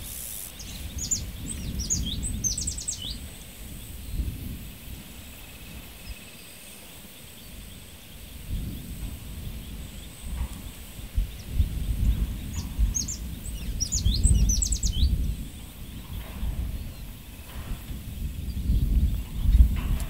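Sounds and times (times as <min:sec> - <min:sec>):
small bird chirping: 0:00.0 - 0:19.8
wind buffeting microphone: 0:00.0 - 0:20.0.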